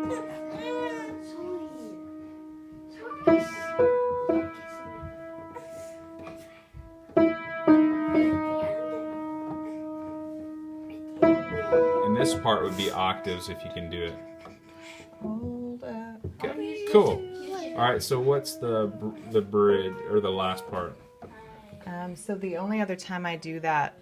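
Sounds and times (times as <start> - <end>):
piano playing slow chords: 0.0 - 15.8, 16.6 - 21.6.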